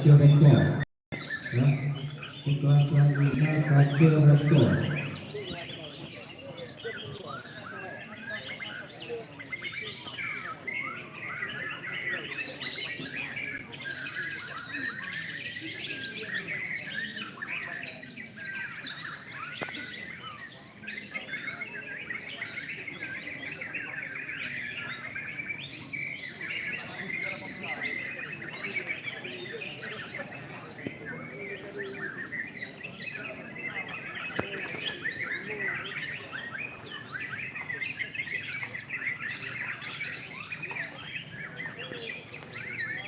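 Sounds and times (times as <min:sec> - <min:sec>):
songbirds singing: 0:00.0 - 0:43.0.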